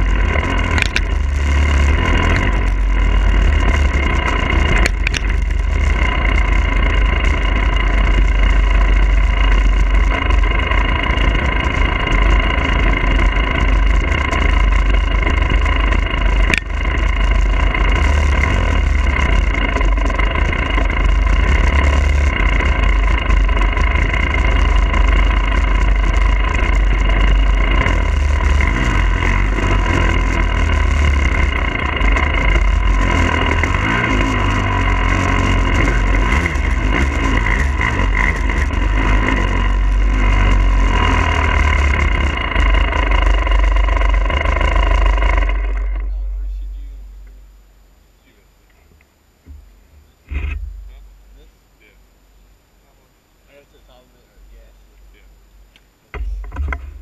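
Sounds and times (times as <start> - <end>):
two-stroke motorcycle engine: 0.0 - 47.6, 48.2 - 51.5, 56.1 - 57.0.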